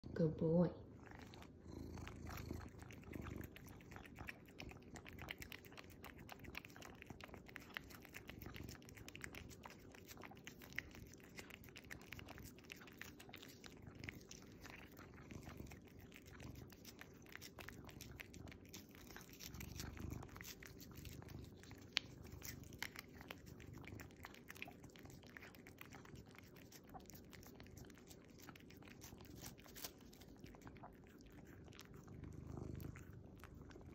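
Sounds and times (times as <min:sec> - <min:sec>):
cat purring: 0:00.0 - 0:33.9
cat licking and slurping: 0:00.2 - 0:33.9.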